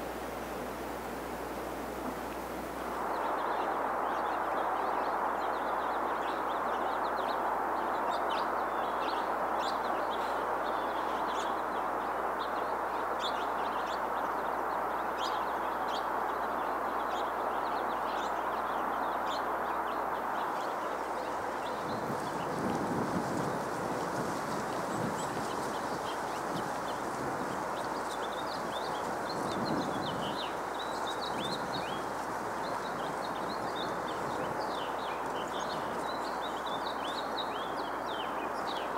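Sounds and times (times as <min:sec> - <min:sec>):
songbirds chip notes: 0:00.0 - 0:38.9
steady rushing background noise: 0:00.0 - 0:38.9.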